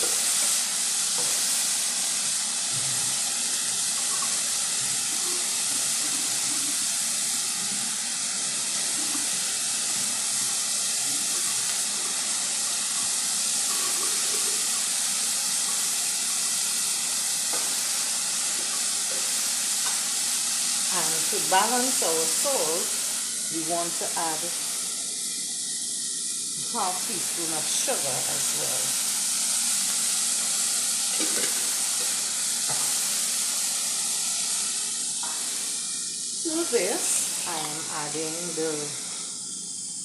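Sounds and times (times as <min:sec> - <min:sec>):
vegetables sizzling in a pan: 0:00.0 - 0:40.0.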